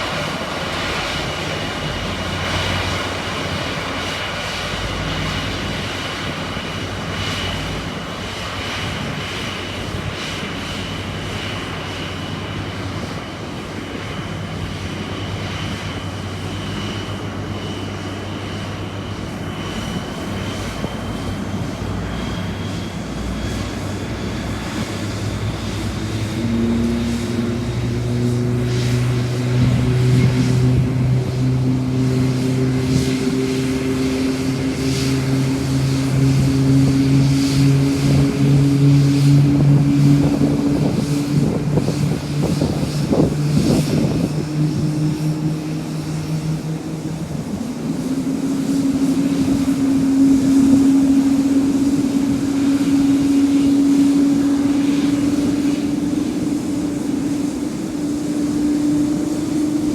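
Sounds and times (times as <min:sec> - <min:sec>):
jet engine whine: 0:00.0 - 0:59.9
low hum: 0:00.0 - 0:59.9.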